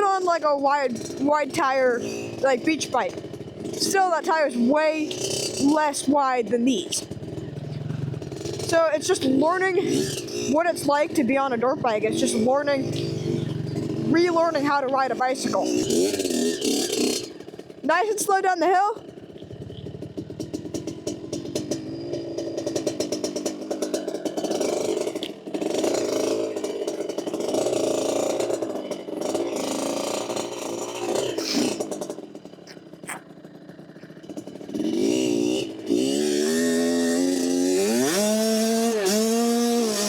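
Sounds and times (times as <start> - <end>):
dirt bike engine revving: 0.0 - 40.0
engine clatter: 0.0 - 40.0.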